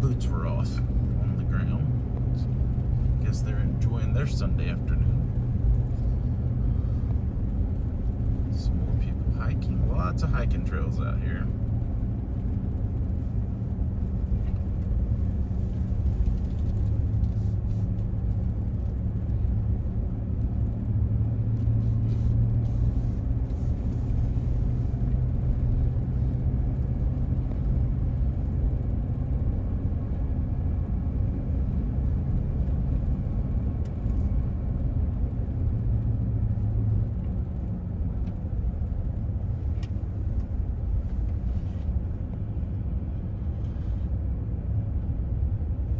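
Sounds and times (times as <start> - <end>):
car engine and tyre drone: 0.0 - 45.9.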